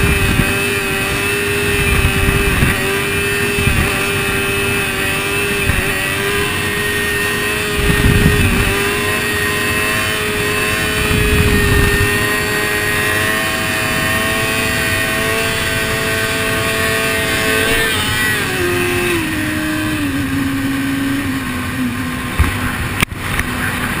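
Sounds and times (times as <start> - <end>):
motorcycle engine running: 0.0 - 24.0
wind noise: 0.0 - 24.0.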